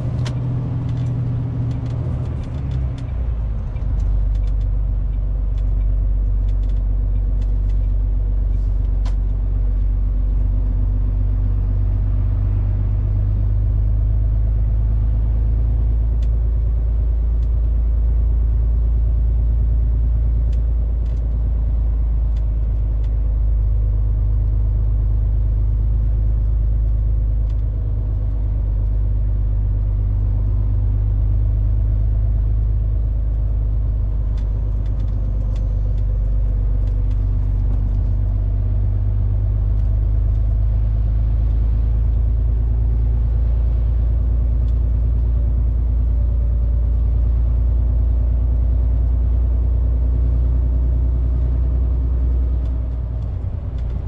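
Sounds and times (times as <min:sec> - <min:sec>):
road noise: 0:00.0 - 0:54.0
truck diesel engine drone: 0:00.0 - 0:54.0.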